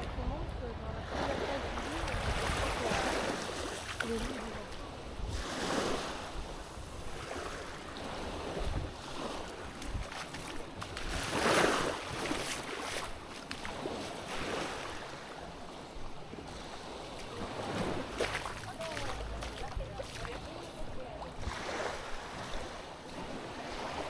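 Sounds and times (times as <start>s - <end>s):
small waves washing onto beach: 0.0s - 24.0s.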